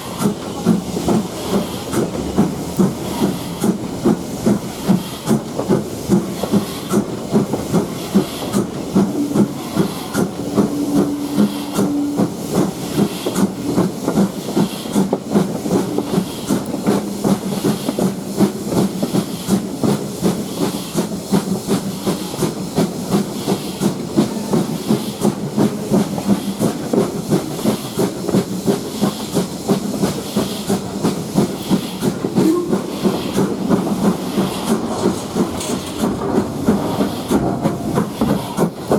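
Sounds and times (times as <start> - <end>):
steam locomotive chuffing: 0.0 - 38.9.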